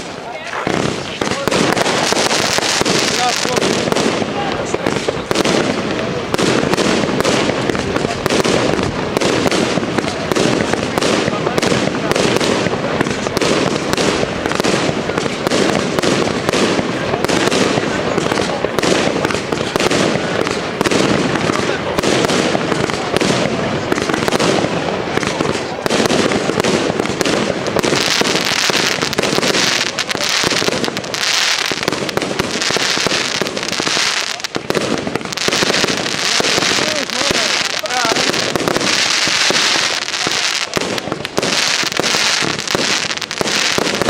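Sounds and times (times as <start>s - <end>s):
fireworks bangs: 0.0s - 44.0s
hissing firework: 0.0s - 44.0s.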